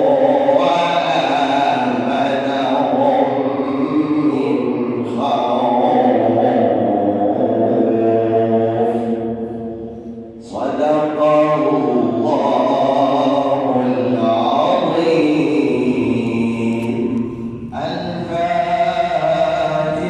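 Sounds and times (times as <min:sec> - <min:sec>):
man chanting melodic recitation: 0:00.0 - 0:20.0.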